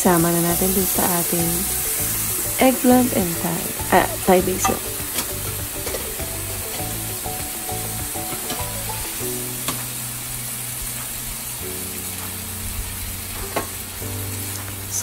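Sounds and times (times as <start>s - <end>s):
background music: 0.0s - 15.0s
food sizzling in a frying pan: 0.0s - 15.0s.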